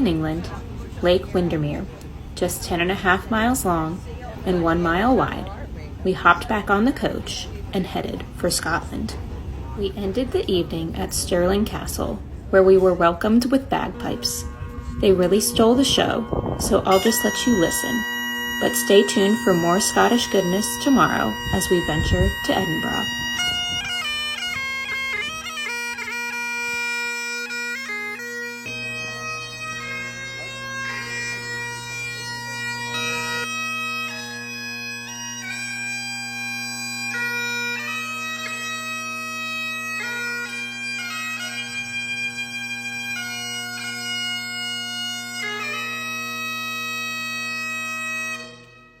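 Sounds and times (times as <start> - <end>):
bagpipes playing a tune: 0.0 - 49.0.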